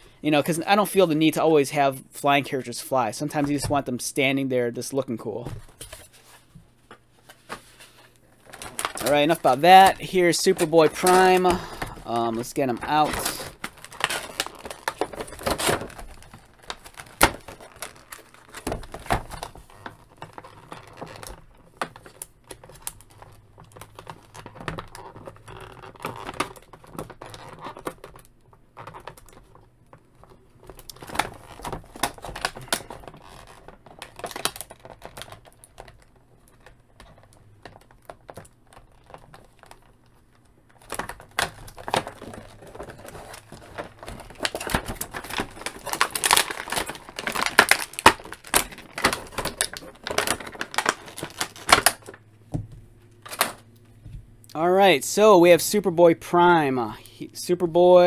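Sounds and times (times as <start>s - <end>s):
plastic packaging crinkling: 5.1s - 52.3s, 53.1s - 53.8s.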